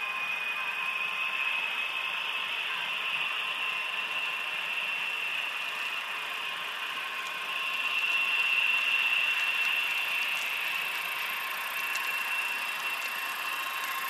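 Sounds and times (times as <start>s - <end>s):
model train motor whine: 0.0s - 14.0s
wheels rolling on rails hiss: 0.0s - 14.0s.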